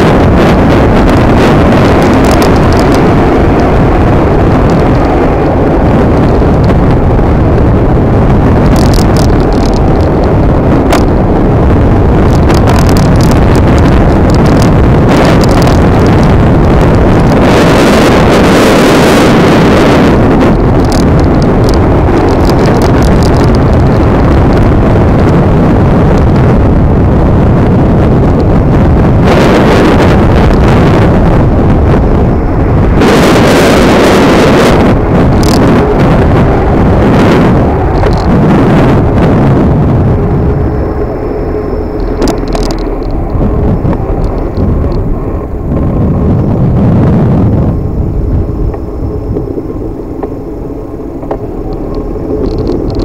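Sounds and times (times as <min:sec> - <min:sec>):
road noise: 0:00.0 - 0:53.0
wind rushing over microphone: 0:00.0 - 0:53.0.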